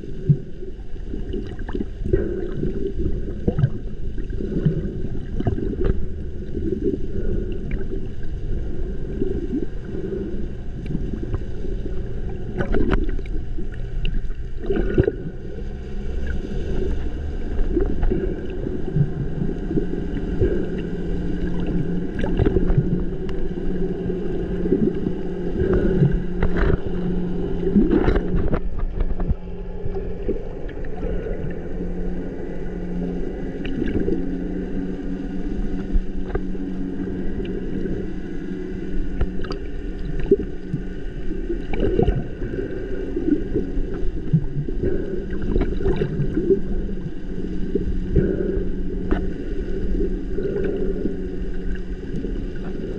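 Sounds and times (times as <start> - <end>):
boat engine drone underwater: 0.0 - 52.9
low hum: 0.0 - 52.9.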